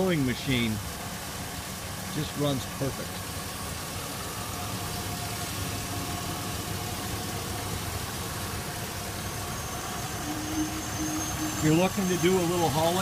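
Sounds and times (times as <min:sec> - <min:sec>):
faint steady whine: 0:00.0 - 0:13.0
truck engine idling: 0:00.0 - 0:13.0.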